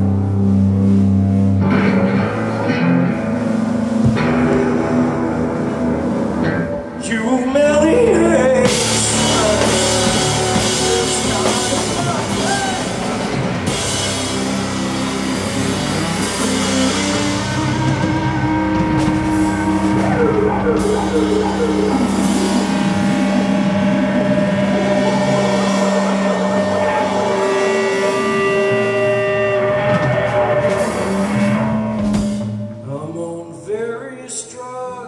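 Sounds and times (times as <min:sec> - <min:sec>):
drum kit: 0:00.0 - 0:33.1
rock band playing live: 0:00.0 - 0:33.7.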